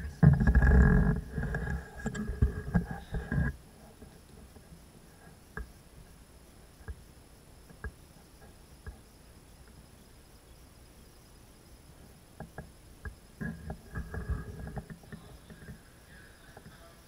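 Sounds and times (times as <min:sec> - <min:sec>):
faint steady high hiss: 0:00.0 - 0:17.0.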